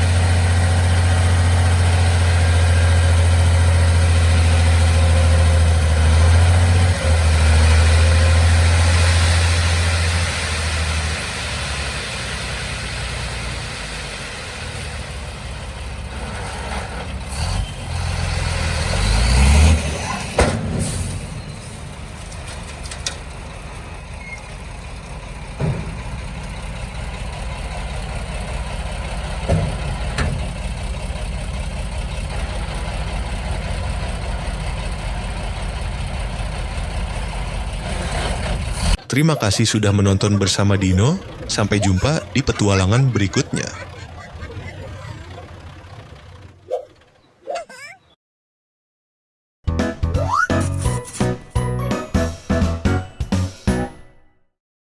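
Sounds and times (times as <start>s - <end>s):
heavy vehicle engine running: 0.0s - 39.1s, 40.1s - 47.4s.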